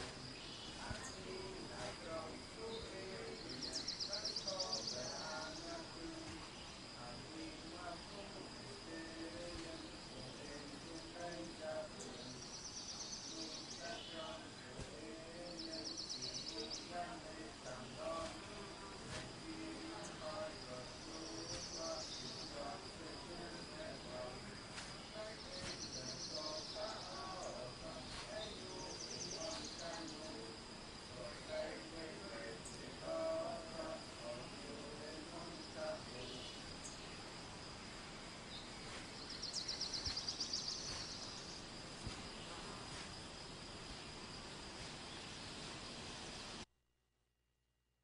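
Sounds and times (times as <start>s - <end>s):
insects chirring: 0.0s - 46.6s.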